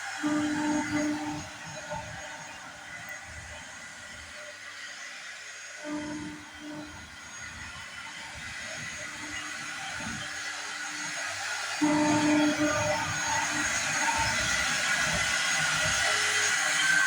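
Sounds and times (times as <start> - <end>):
woodworking machine whirring: 0.0 - 17.0.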